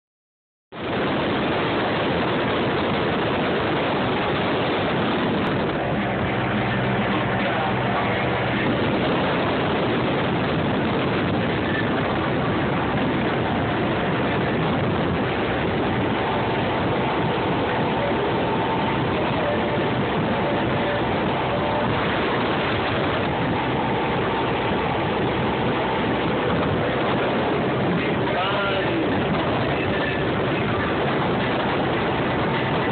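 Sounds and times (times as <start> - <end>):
motorboat engine hum: 0.7 - 32.9
wind and water rushing: 0.7 - 32.9.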